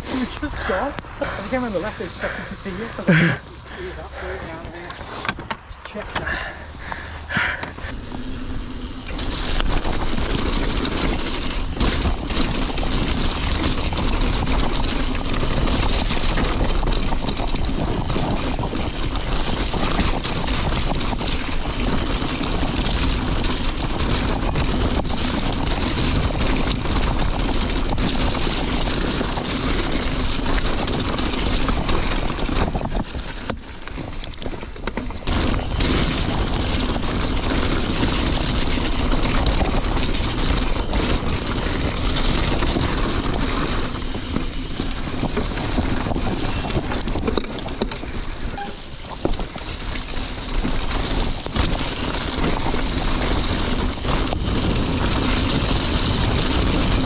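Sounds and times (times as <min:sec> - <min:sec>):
mountain bike rattling over stones: 0:00.0 - 0:57.0
wind noise on microphone: 0:06.4 - 0:57.0.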